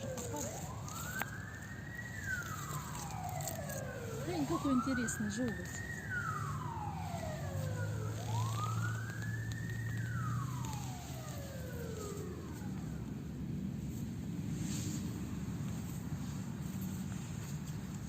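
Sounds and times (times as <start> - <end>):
emergency vehicle siren wailing: 0.0 - 18.0.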